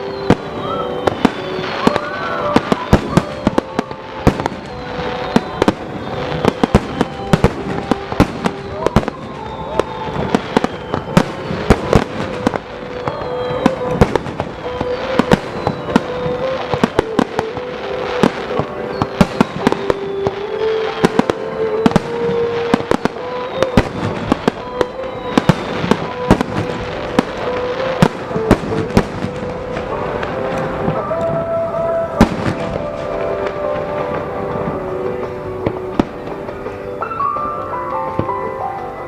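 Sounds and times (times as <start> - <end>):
background music: 0.0 - 39.0
fireworks bangs: 0.0 - 39.0.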